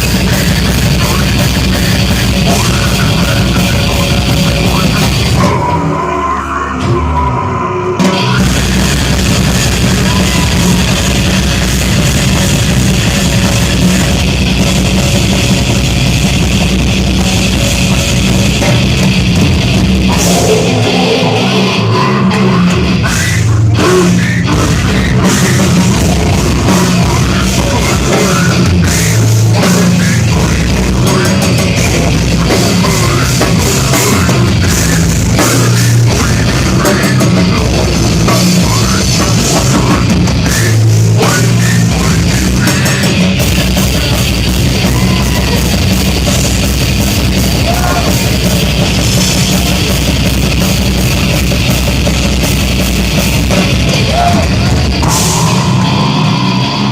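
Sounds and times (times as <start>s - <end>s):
bass guitar: 0.0s - 56.9s
distorted guitars: 0.0s - 56.9s
drums: 0.0s - 56.9s.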